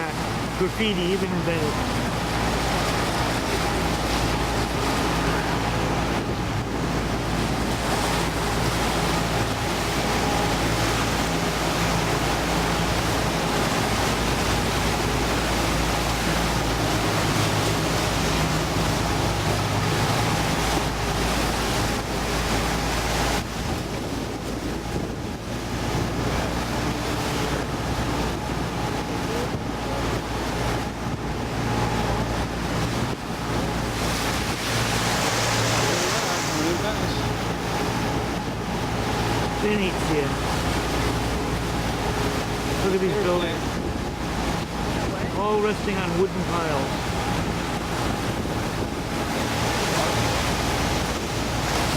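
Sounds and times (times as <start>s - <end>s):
motorboat engine running: 0.0s - 51.9s
water rushing along hull: 0.0s - 51.9s
wind buffeting microphone: 0.0s - 51.9s.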